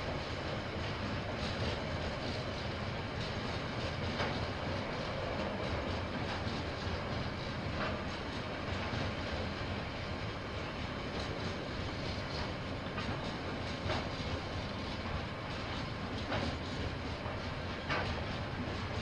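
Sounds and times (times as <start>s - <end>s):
train rumbling past: 0.0s - 19.0s
train wheels clacking: 0.0s - 19.0s.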